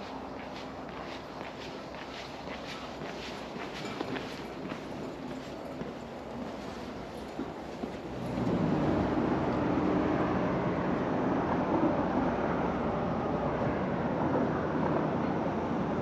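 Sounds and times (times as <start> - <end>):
engine rumble: 0.0 - 16.0.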